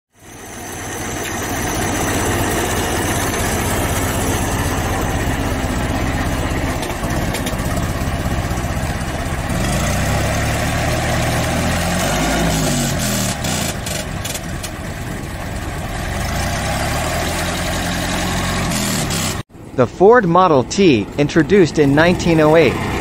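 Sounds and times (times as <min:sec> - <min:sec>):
old car engine running: 0:00.1 - 0:23.0.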